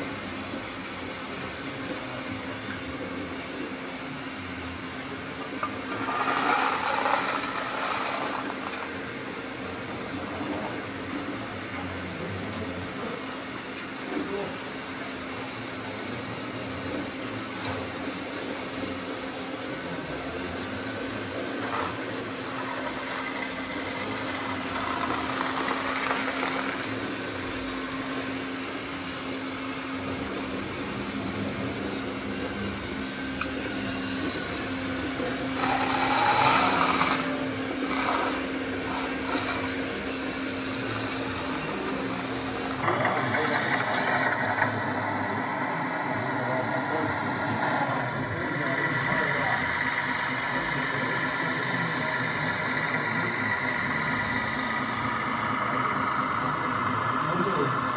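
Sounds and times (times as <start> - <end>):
small electric motors whining: 0.0 - 57.9.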